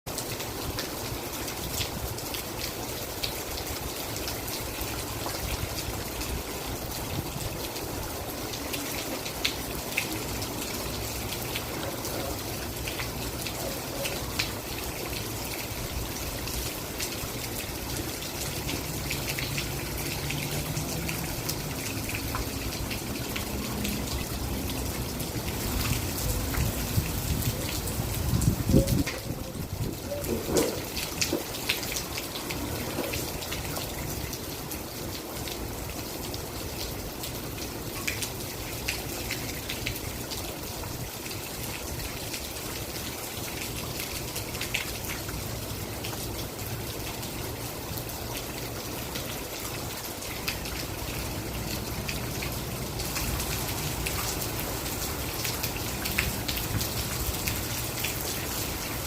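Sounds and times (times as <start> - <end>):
raindrops ticking close by: 0.1 - 59.0
steady rain hiss: 0.1 - 59.0.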